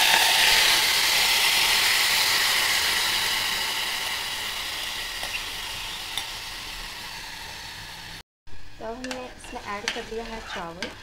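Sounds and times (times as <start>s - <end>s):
rice sizzling in hot fat: 0.0s - 11.0s.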